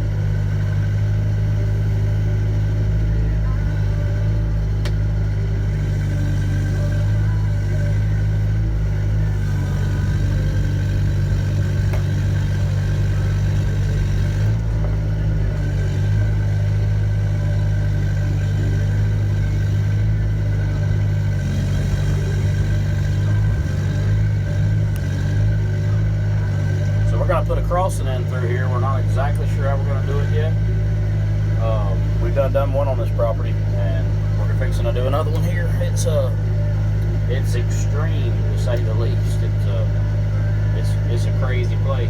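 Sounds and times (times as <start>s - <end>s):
excavator diesel engine humming: 0.0s - 42.0s.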